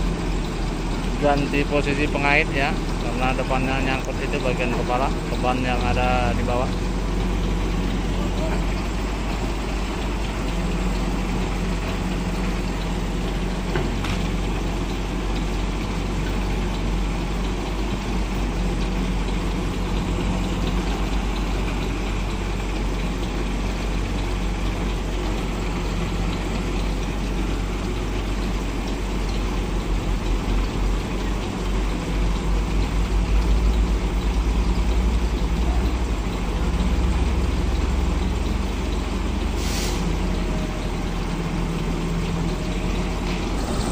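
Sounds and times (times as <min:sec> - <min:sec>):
truck engine idling and revving: 0:00.0 - 0:43.9.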